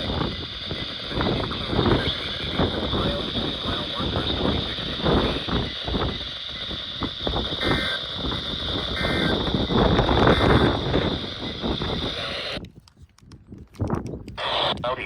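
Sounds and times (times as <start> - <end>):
faint screeching data tones: 0.0 - 12.6
radio static hissing and crackling: 0.0 - 12.6, 14.4 - 15.0.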